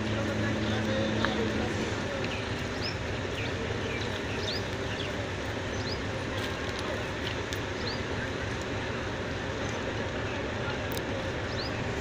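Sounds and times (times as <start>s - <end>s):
diesel engine hum: 0.0s - 12.0s.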